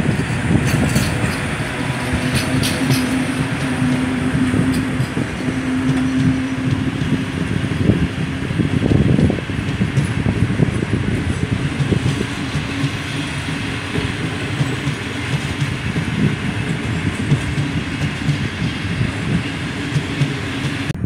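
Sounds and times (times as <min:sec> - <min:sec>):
freight train wheels rumbling on rail: 0:00.0 - 0:21.0
train wagon knocks: 0:00.0 - 0:21.0.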